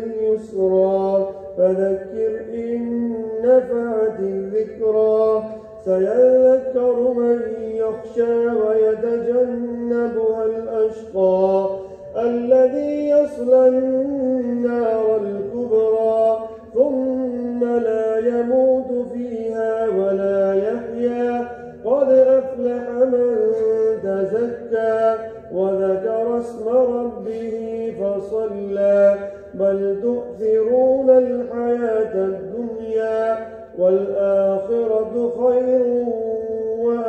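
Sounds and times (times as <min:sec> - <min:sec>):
man chanting melodically: 0:00.0 - 0:37.0.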